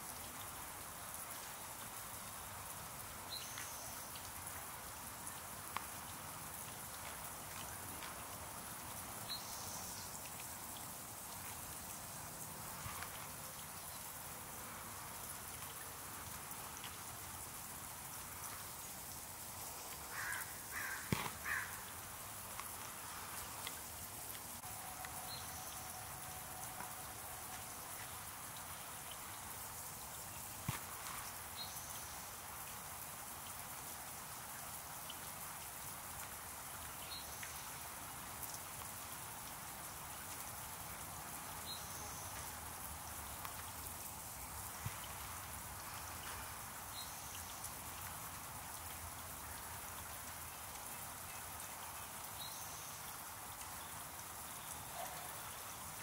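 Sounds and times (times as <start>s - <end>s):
water fountain splashing: 0.0s - 56.0s.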